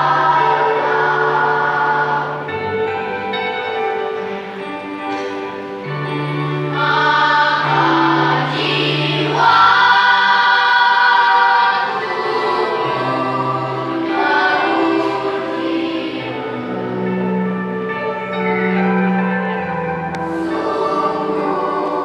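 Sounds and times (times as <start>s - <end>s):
choir singing in parts: 0.0s - 3.7s, 5.2s - 17.6s, 20.1s - 22.0s.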